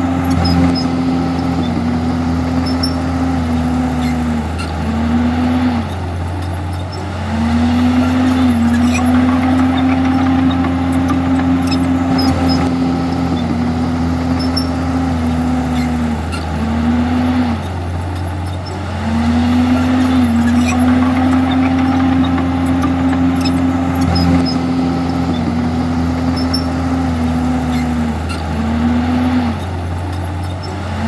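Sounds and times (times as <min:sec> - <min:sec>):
bulldozer diesel engine under load: 0:00.0 - 0:31.0.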